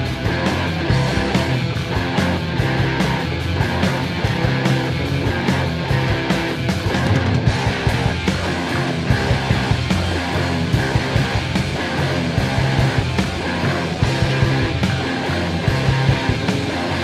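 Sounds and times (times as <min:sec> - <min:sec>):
rock band music: 0:00.0 - 0:17.0.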